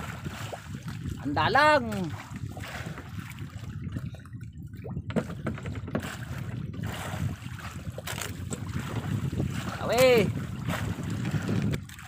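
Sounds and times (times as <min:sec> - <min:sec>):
water sloshing against boat hull: 0:00.0 - 0:12.0
wind on microphone: 0:00.0 - 0:12.0.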